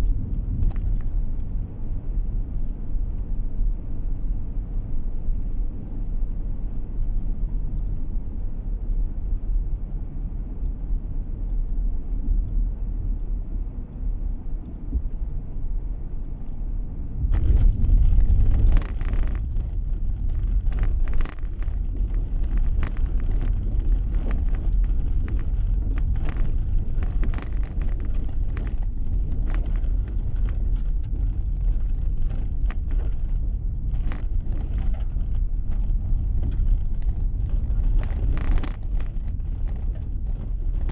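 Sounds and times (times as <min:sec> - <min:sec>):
car road and engine rumble: 0:00.0 - 0:40.9
crackles and ticks: 0:00.0 - 0:40.9.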